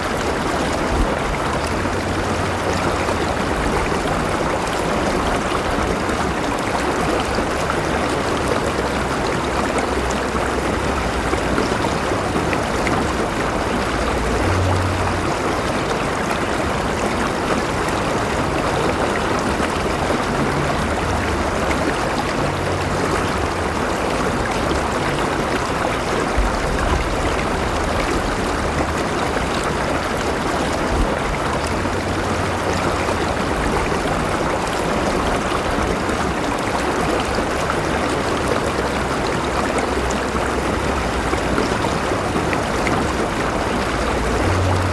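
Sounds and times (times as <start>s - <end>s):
river flowing over stones: 0.0s - 44.9s.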